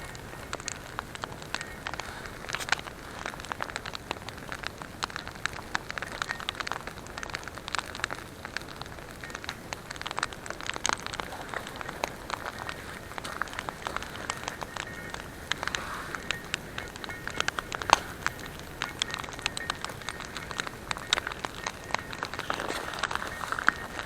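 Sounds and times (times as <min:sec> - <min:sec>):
campfire crackling: 0:00.0 - 0:24.0
soft steady hiss: 0:00.0 - 0:24.0.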